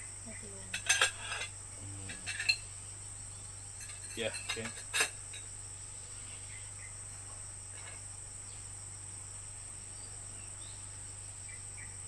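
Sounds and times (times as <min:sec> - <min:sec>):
faint low hum: 0:00.0 - 0:12.0
insects chirring: 0:00.0 - 0:12.0.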